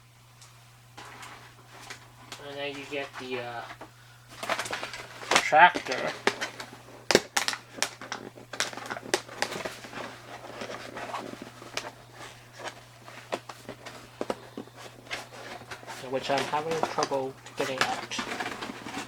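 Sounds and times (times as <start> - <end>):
low steady hum: 0.0 - 19.0
plastic packaging crinkling: 0.9 - 19.0.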